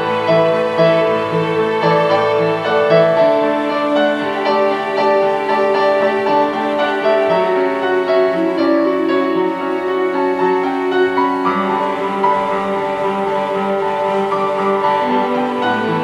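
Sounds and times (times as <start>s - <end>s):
held string notes: 0.0s - 16.0s
slow piano music: 0.0s - 16.0s.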